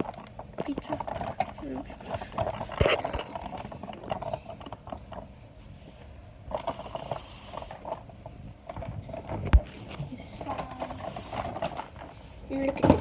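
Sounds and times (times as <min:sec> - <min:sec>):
plastic and cardboard rustling: 0:00.0 - 0:13.0.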